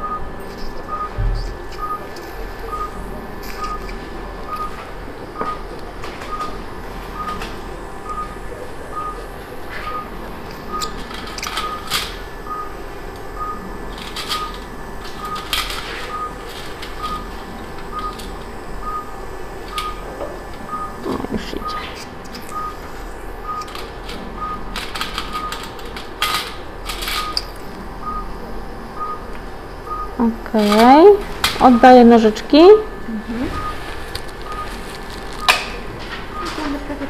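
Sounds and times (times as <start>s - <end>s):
patient monitor beeping: 0.0s - 37.0s
steady low hum: 0.0s - 37.0s.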